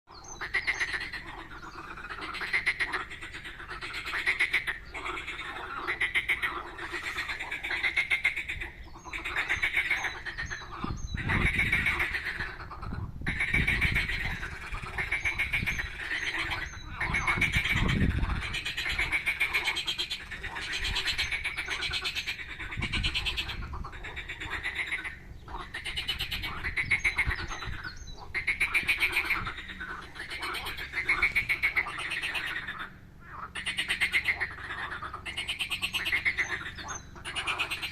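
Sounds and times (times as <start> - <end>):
frogs croaking: 0.1 - 37.9.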